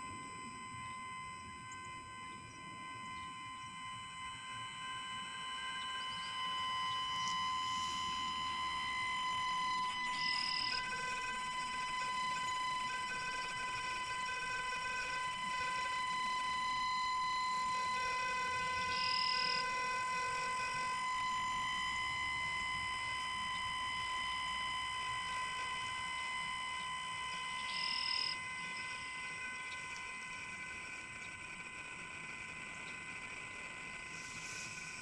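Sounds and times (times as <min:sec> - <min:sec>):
high-pitched electronic drone: 0:00.0 - 0:35.0
pulsing low electronic tone: 0:00.0 - 0:35.0.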